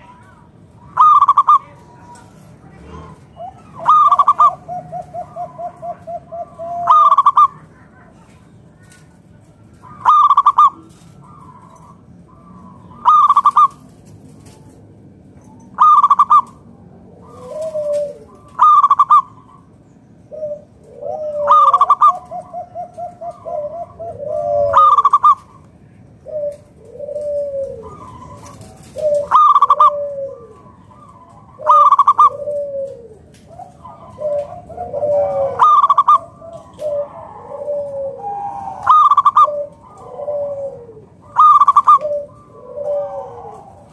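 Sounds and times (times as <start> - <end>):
dove cooing: 0.0 - 14.9, 15.5 - 43.9.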